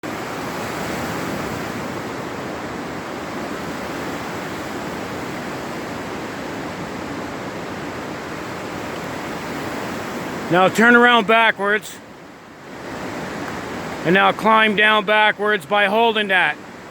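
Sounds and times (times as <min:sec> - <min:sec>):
river rapids rushing: 0:00.0 - 0:16.9.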